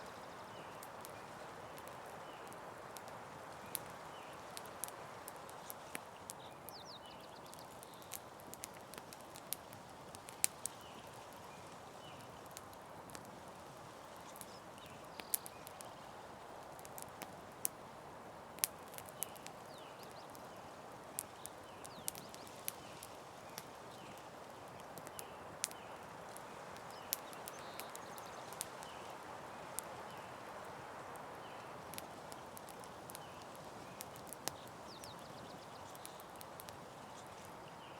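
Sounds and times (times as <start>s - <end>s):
campfire crackling and popping: 0.0s - 37.9s
soft steady hiss: 0.0s - 37.9s.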